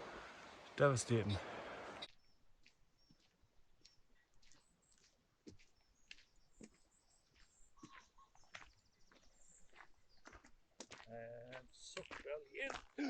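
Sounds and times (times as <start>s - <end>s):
footsteps on path: 2.0s - 13.0s.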